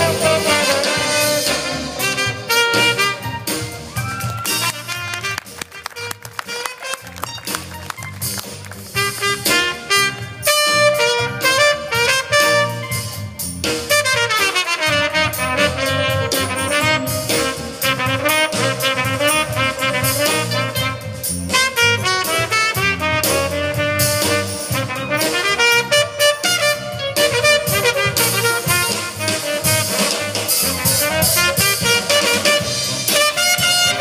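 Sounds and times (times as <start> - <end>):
jazz big band playing: 0.0 - 34.0.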